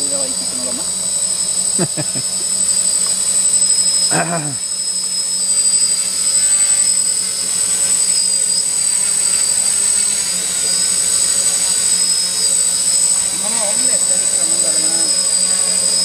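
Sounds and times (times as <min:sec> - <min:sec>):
quadcopter buzzing with high whine: 0:00.0 - 0:16.0.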